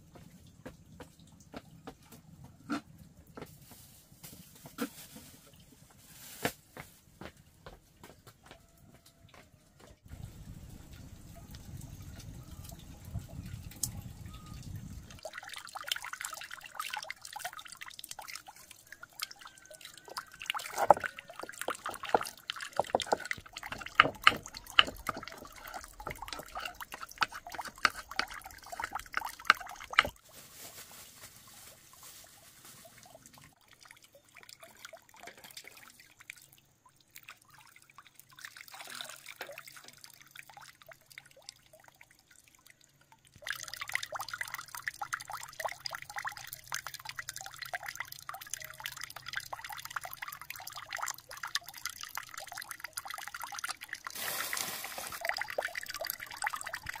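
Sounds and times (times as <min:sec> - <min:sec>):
water trickling into basin: 0:10.1 - 0:57.0.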